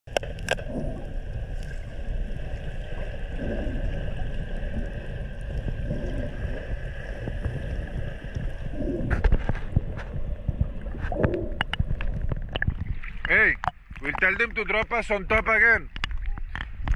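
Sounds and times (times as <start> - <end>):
underwater hum and rumble: 0.1 - 16.9.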